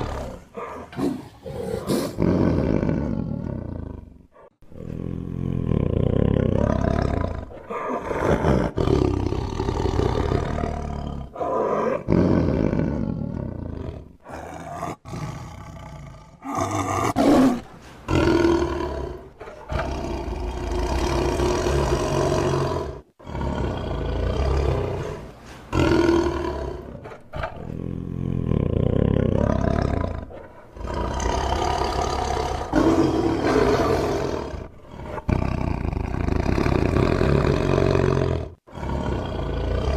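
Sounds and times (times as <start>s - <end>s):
tiger roaring and growling: 0.0s - 39.9s.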